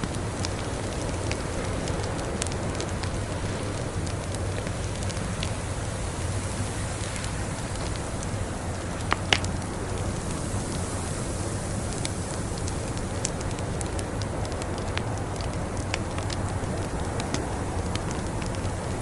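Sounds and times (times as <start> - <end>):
steady rushing hiss: 0.0 - 19.0
wood fire crackling and popping: 0.0 - 19.0.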